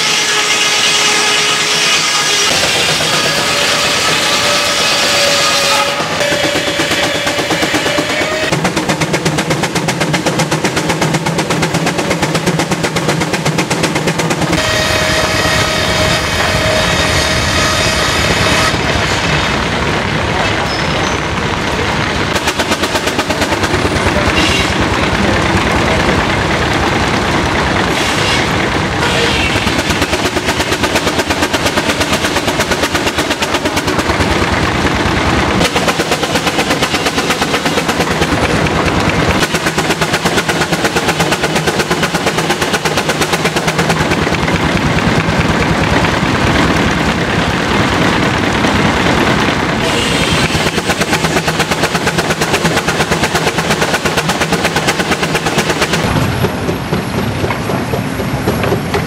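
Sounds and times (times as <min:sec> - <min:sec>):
engine running with rapid exhaust beat: 0:02.0 - 0:20.6, 0:21.2 - 0:59.0.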